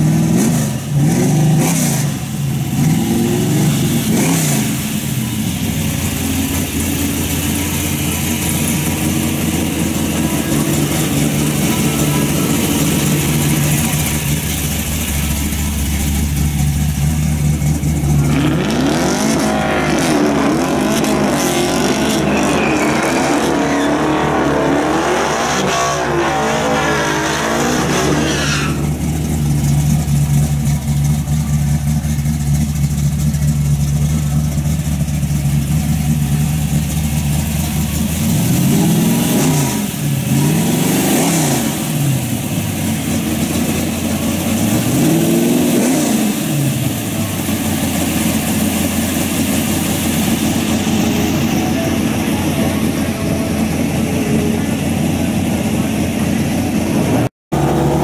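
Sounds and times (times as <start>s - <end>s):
engine idling: 0.0s - 20.0s, 28.8s - 58.0s
engine throttle blips: 0.0s - 58.0s.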